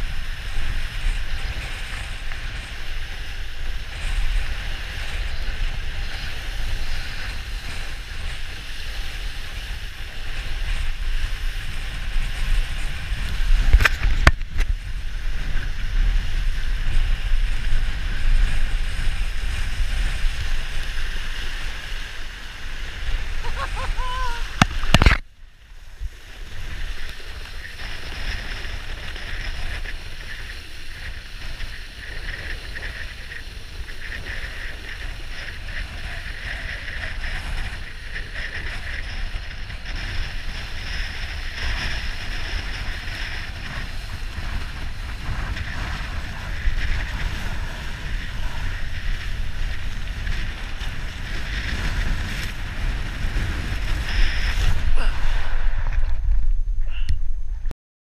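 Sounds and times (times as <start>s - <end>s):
rush of water and spray: 0.0s - 56.4s
wind rumbling on microphone: 0.0s - 57.7s.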